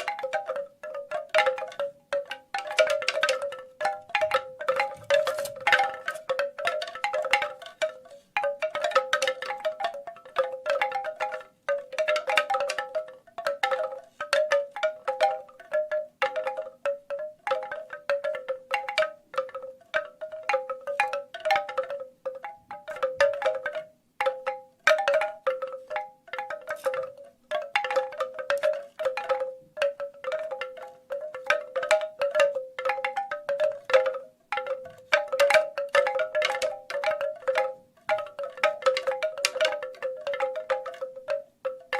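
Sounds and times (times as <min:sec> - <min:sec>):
bamboo wind chimes knocking: 0:00.0 - 0:41.9.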